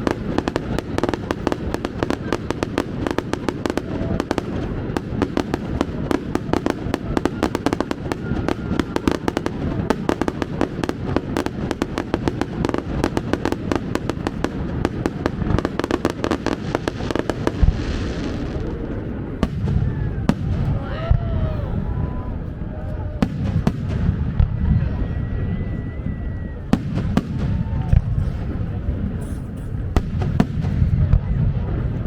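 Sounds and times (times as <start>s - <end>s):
fireworks bangs and crackles: 0.0s - 32.0s
heavy firework boom: 0.0s - 32.0s.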